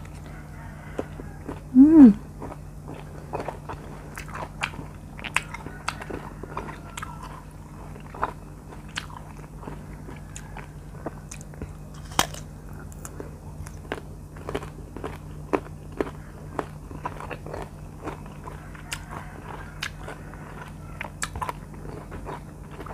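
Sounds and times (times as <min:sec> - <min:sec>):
biting and chewing mango: 0:00.0 - 0:22.9.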